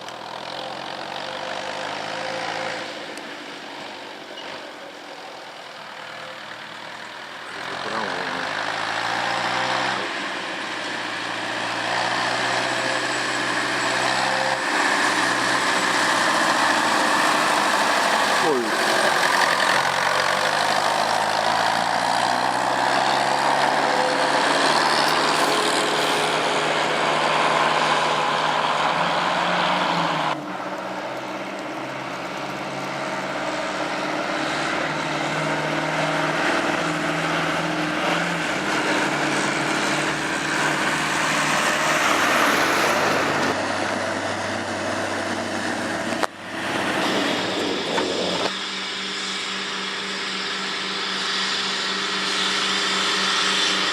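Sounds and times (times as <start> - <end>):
tractor engines running: 0.0 - 53.9.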